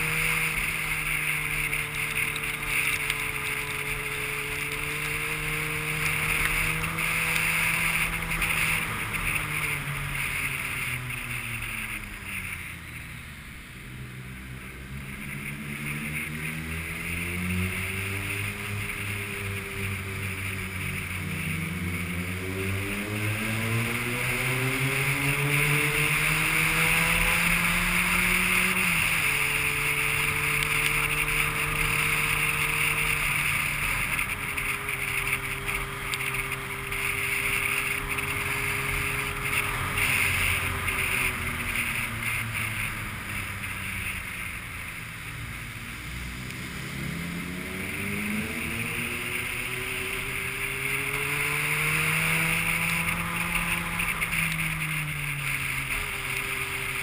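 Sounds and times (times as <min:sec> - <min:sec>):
vehicle engine revving: 0:00.0 - 0:57.0
wind or road noise hiss: 0:00.0 - 0:57.0.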